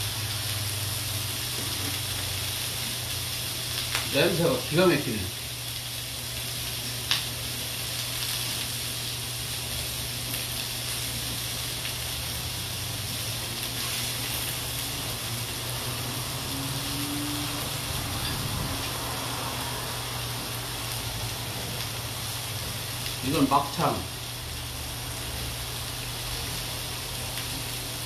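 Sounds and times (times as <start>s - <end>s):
meat sizzling on grill pan: 0.0s - 28.0s.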